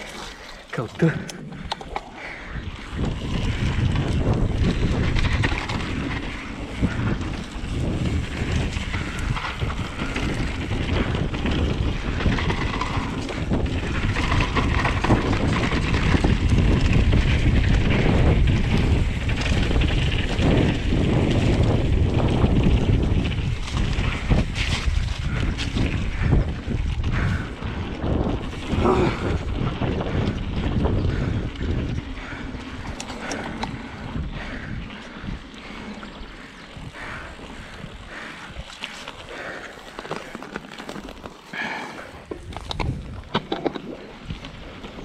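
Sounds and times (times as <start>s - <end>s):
bike tyres and frame rattling: 0.0s - 45.0s
wind rushing over microphone: 0.0s - 45.0s.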